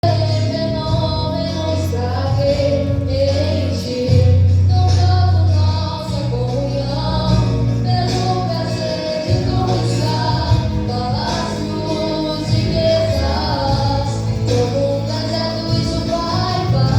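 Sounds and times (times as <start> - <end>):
light percussion: 0.0 - 16.9
women singing praise song: 0.0 - 16.9.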